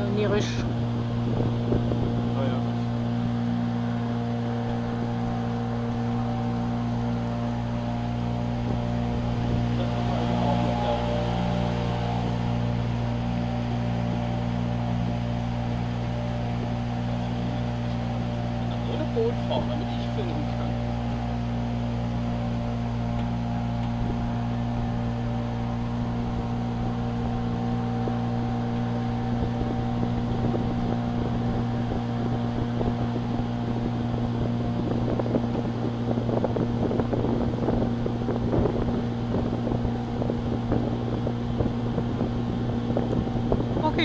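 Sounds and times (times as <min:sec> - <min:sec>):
motorboat engine droning: 0:00.0 - 0:44.0
wind buffeting microphone: 0:00.0 - 0:44.0.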